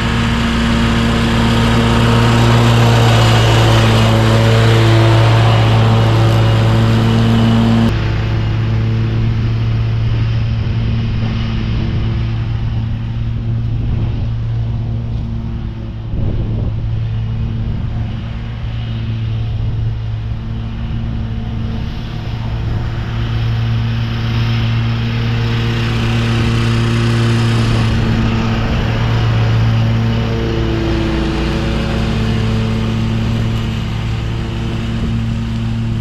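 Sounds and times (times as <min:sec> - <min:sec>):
lawn mower engine running: 0:00.0 - 0:36.0
noisy rush: 0:00.0 - 0:36.0.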